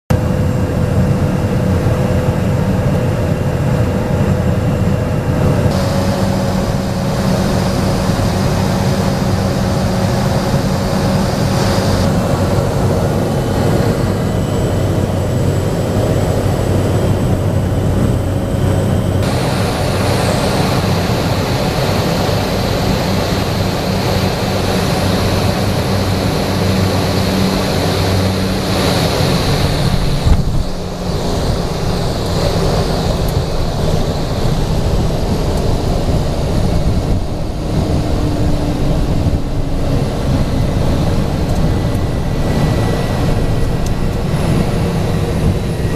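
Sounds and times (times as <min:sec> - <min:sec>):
light aircraft engine drone: 0:00.1 - 0:45.9.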